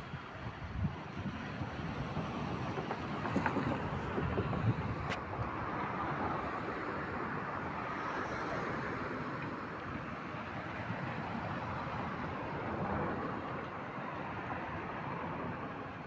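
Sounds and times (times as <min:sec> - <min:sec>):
car road and wind rumble: 0:00.0 - 0:16.0.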